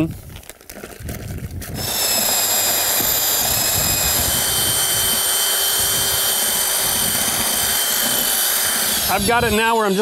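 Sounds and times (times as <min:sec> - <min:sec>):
drill mixer motor whine: 0:01.7 - 0:10.0.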